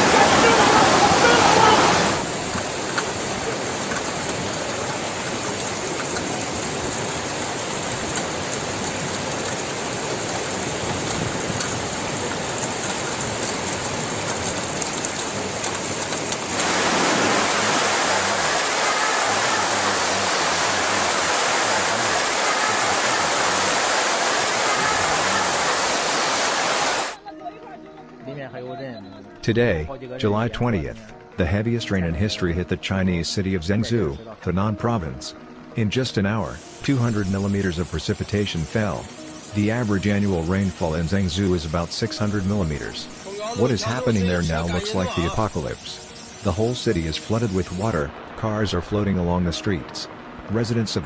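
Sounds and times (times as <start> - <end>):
water rushing: 0.0 - 27.2, 35.9 - 51.0.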